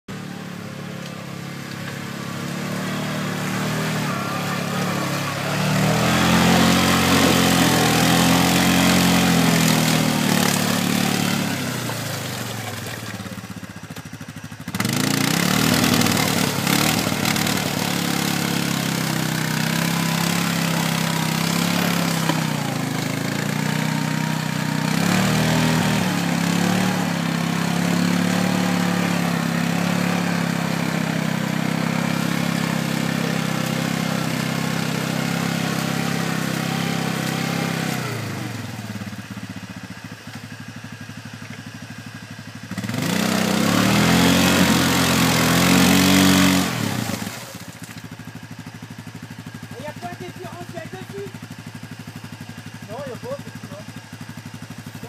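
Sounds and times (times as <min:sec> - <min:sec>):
quad bike engine revving: 0:00.0 - 0:55.0
wheels churning through mud: 0:00.1 - 0:55.0.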